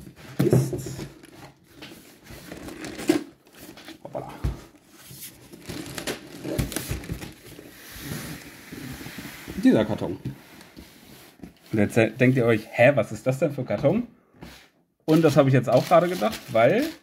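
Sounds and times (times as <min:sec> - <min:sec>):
cardboard rustling and scraping: 0:00.0 - 0:04.0, 0:04.8 - 0:12.6, 0:14.4 - 0:17.0.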